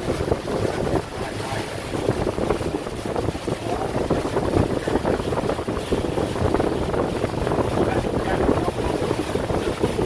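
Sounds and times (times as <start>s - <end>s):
boat motor rumble: 0.0s - 10.0s
wind buffeting microphone: 0.0s - 10.0s.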